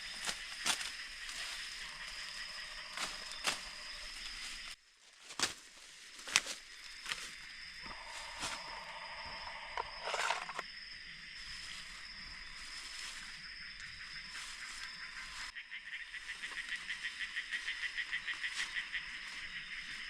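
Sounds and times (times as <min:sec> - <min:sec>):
frogs and insects calling: 0:00.0 - 0:04.8, 0:05.4 - 0:20.0.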